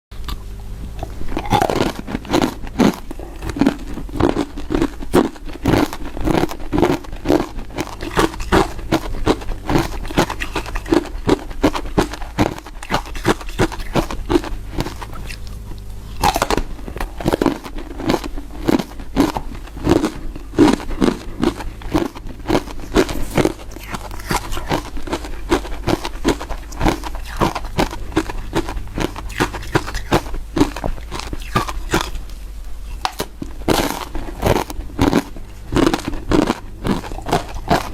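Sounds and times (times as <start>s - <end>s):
ice chips crunching: 1.0s - 32.2s, 32.9s - 37.9s.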